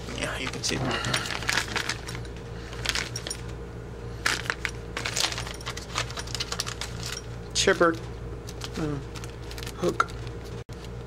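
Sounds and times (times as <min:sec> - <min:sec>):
plastic bags crinkling: 0:00.2 - 0:03.4, 0:04.2 - 0:10.6
metal parts clinking in bags: 0:00.4 - 0:03.6, 0:04.2 - 0:10.2.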